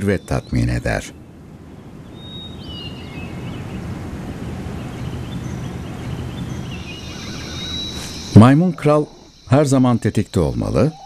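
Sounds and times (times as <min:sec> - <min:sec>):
wind-like rush: 0:00.0 - 0:09.4.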